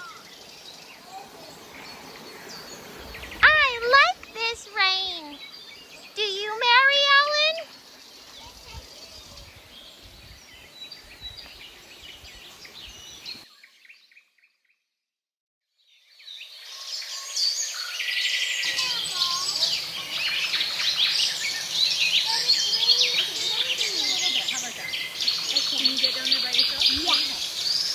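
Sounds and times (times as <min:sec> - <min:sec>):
chorus of birds chirping: 0:00.0 - 0:14.4, 0:16.0 - 0:27.9.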